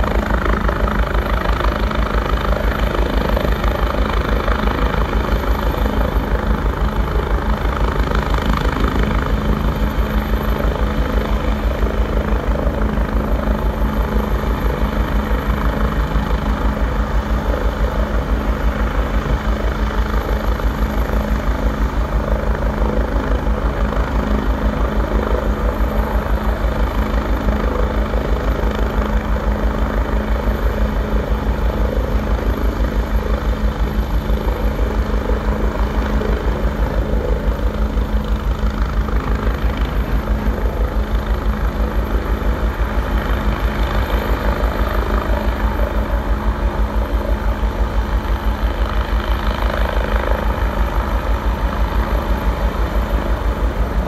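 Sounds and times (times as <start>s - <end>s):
helicopter hum: 0.0s - 54.0s
helicopter rotor pulsing: 0.0s - 54.0s.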